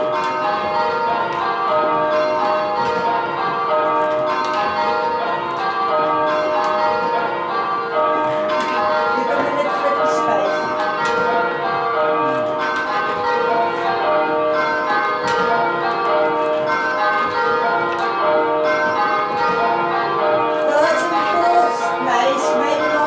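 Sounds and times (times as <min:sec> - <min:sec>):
church bells ringing: 0:00.0 - 0:23.0.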